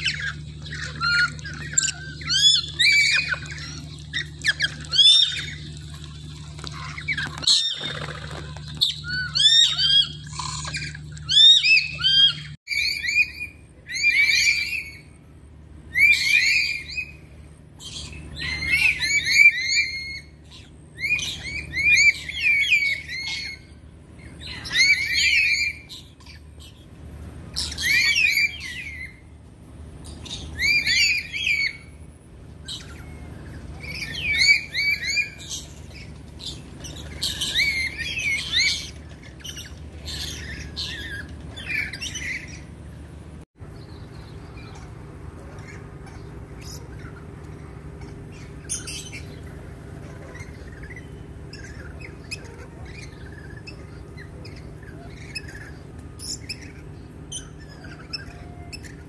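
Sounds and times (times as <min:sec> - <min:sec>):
parrots squawking: 0:00.0 - 0:15.2, 0:15.9 - 0:17.2, 0:17.8 - 0:26.8, 0:27.5 - 0:29.2, 0:30.2 - 0:31.9, 0:32.6 - 0:42.8, 0:44.5 - 0:59.0.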